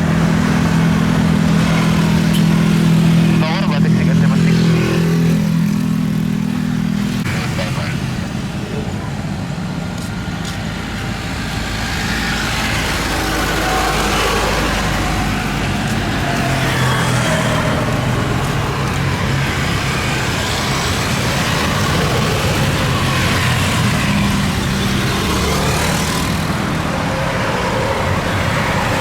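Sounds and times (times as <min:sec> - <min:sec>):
engine rumble: 0:00.0 - 0:29.0.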